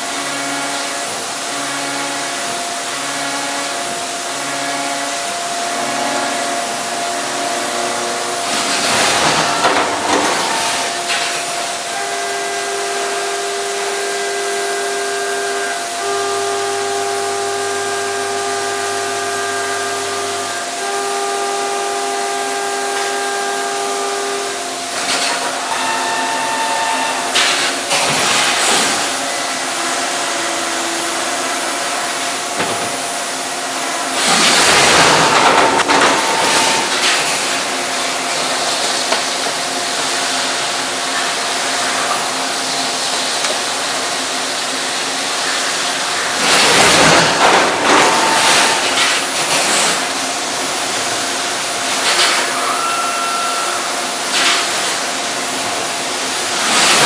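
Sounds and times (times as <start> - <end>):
coolant and cutting hiss: 0.0 - 57.0.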